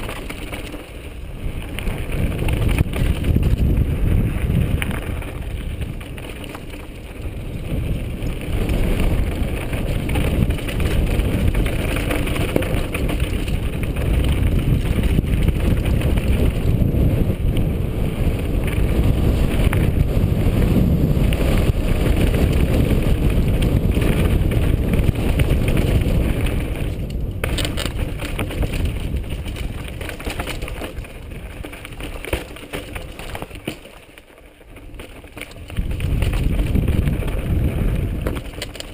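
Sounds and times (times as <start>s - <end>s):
wind rumbling over microphone: 0.0s - 33.7s, 34.6s - 38.9s
bike rattling over stones: 0.0s - 38.9s.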